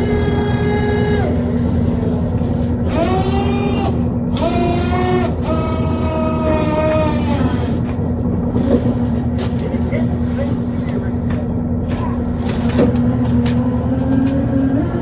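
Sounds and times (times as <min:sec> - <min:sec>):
machinery whining: 0:00.0 - 0:15.0
steady low drone: 0:00.0 - 0:15.0.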